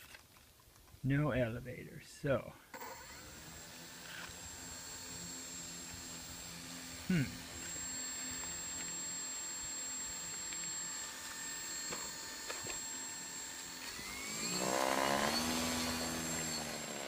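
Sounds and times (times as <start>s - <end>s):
model plane motor whine: 2.8s - 17.0s.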